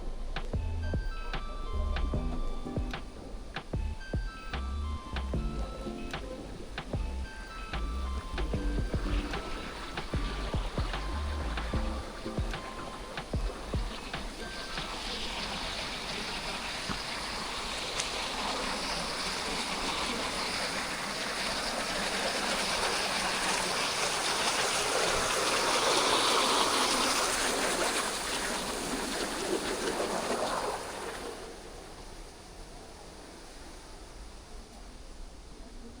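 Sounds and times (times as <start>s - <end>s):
rushing water: 1.2s - 34.5s.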